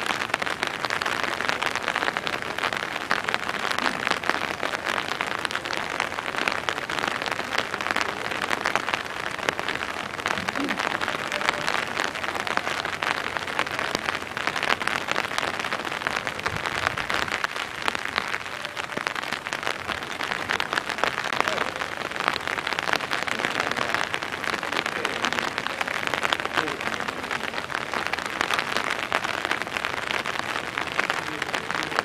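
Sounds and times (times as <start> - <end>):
steady rain patter: 0.0 - 32.0.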